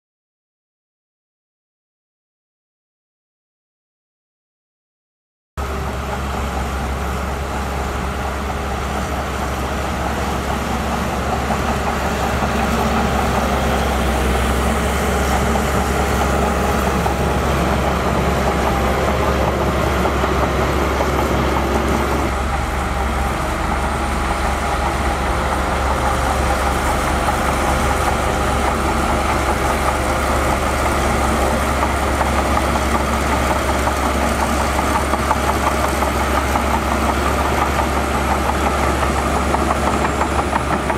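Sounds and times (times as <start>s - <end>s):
heavy diesel engine humming: 5.6s - 40.9s.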